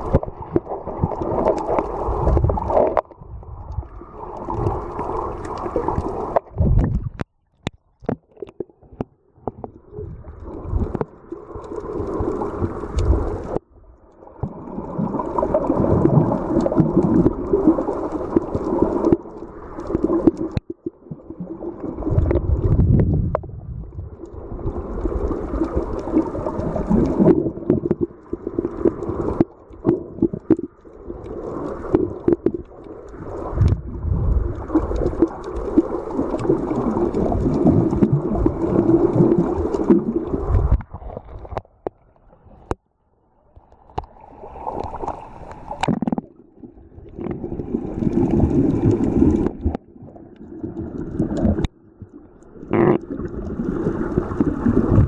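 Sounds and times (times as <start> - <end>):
small underwater clicks: 0.0 - 42.8, 43.5 - 46.4, 47.1 - 55.0
underwater rushing and gurgling: 0.0 - 55.0.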